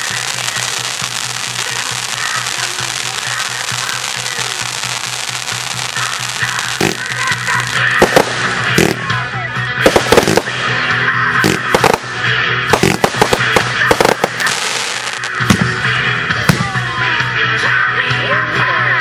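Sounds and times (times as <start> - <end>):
fireworks bursting with bangs: 0.0 - 16.9
music playing: 0.0 - 19.0.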